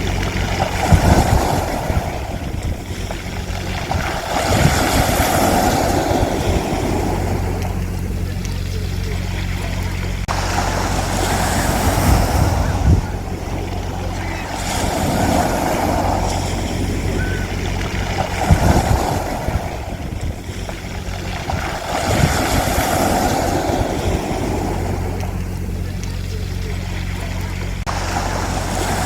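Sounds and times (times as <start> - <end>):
low rumbles: 0.0 - 29.0
sea waves washing onto beach: 0.0 - 29.0
steady low hum: 0.0 - 29.0.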